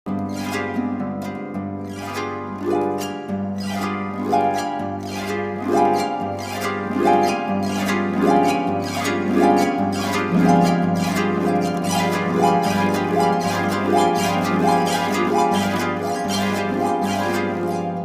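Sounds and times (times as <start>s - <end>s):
plucked-string notes: 0.1s - 18.0s.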